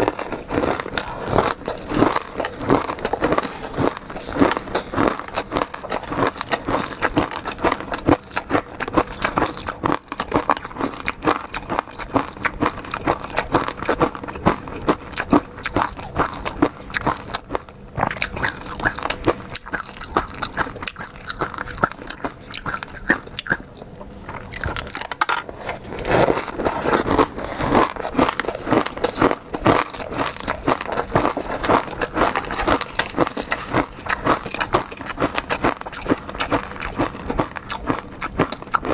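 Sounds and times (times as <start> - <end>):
chewing and biting: 0.0 - 38.9.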